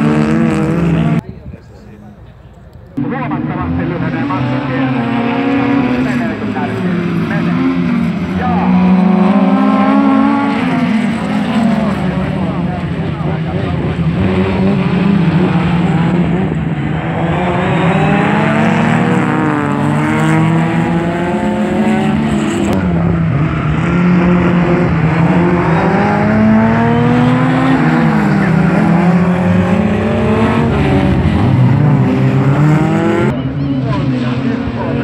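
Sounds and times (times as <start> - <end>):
car engines revving hard: 0.0 - 1.2, 3.0 - 35.0.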